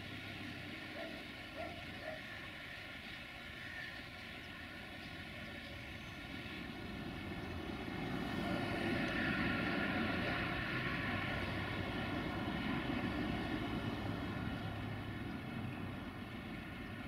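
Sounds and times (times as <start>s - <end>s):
distant locomotive diesel engine drone: 0.0s - 17.0s.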